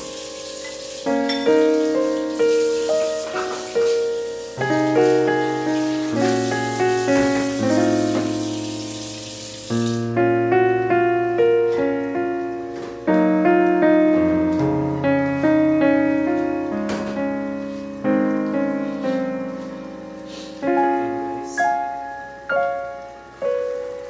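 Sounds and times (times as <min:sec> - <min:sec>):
solo piano music: 0:00.0 - 0:24.0.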